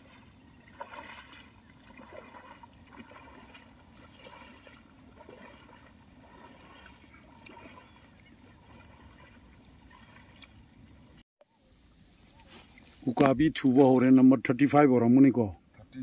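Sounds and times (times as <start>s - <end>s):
water sloshing from wading: 0.0s - 14.1s.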